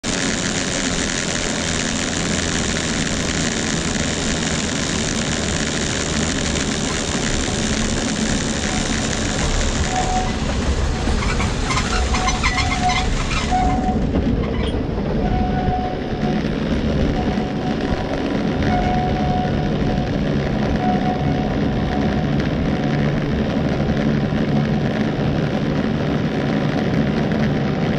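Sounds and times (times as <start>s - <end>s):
cables running over pulleys: 0.0s - 27.9s
tram squealing and rattling: 0.7s - 25.6s.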